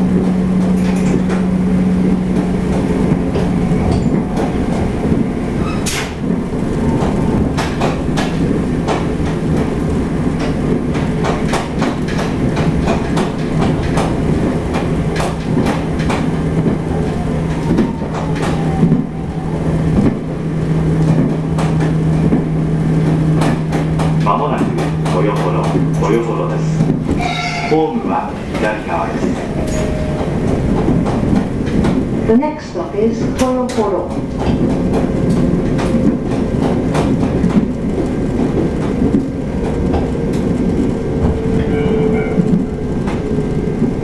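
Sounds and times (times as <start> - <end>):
train interior hum: 0.0 - 44.0
wheels rumbling on rails: 0.0 - 44.0.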